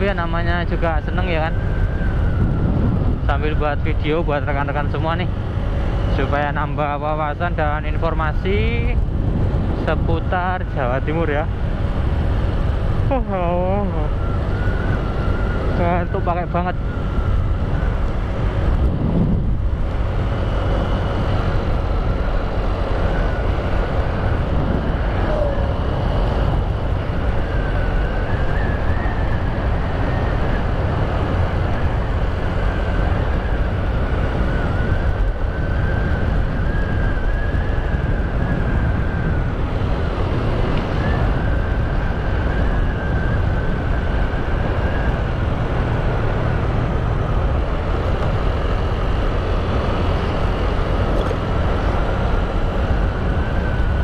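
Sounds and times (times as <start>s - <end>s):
motorbike engine hum: 0.0s - 54.0s
road noise: 0.0s - 54.0s
wind noise on microphone: 0.0s - 54.0s.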